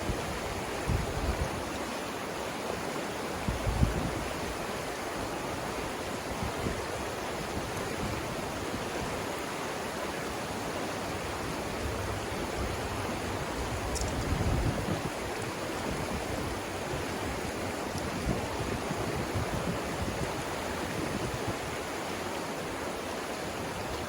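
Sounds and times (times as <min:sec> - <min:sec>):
water rushing over rapids: 0:00.0 - 0:24.0.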